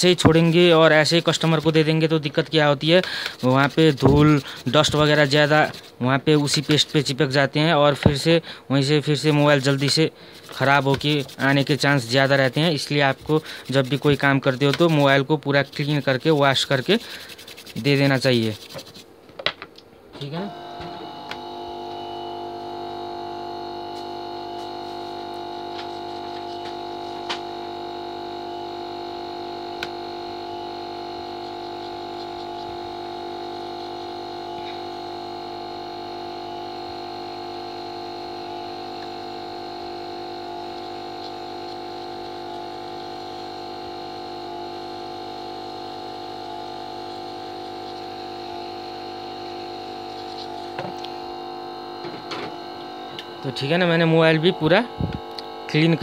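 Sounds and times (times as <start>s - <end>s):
electric blower motor whine: 0.0s - 7.1s, 9.1s - 15.5s, 16.8s - 18.7s, 20.2s - 56.0s.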